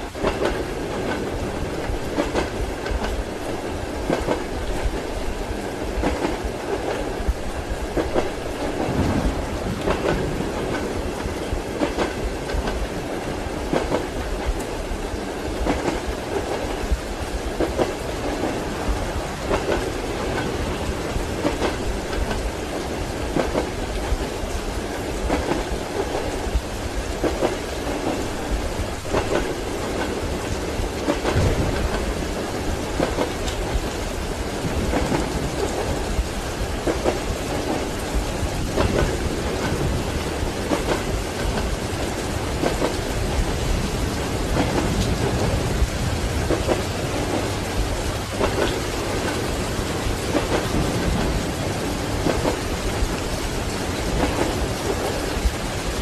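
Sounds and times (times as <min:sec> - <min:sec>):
thunder rumble: 0:00.0 - 0:14.6, 0:25.0 - 0:56.0
rain hiss: 0:00.0 - 0:56.0
train wheels clacking over joints: 0:00.1 - 0:05.4, 0:06.0 - 0:14.8, 0:15.5 - 0:56.0.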